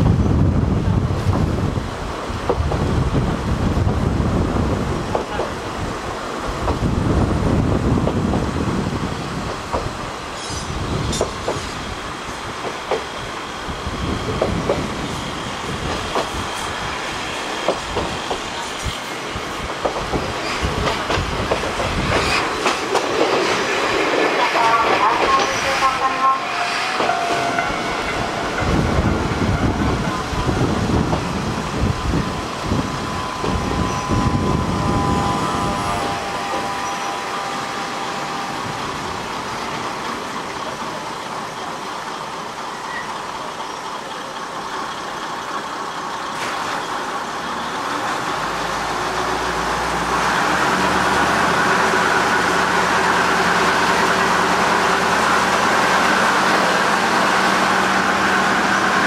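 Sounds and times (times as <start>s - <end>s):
railcar rumbling and knocking: 0.0s - 59.0s.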